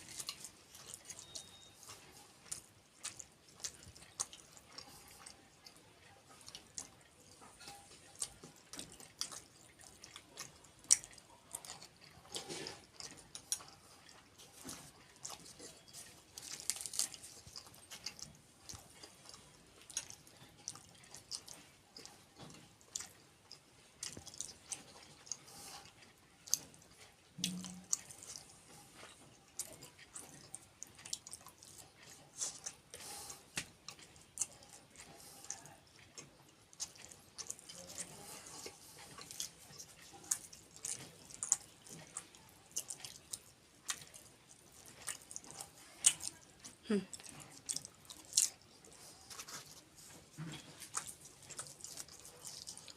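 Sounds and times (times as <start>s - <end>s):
person chewing: 0.0s - 52.9s.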